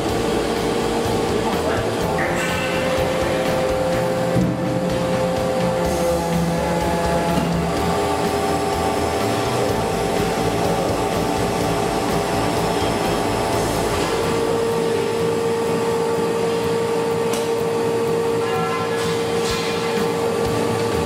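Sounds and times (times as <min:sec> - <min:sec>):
industrial machine droning: 0:00.0 - 0:21.0
steady mechanical whine: 0:00.0 - 0:21.0.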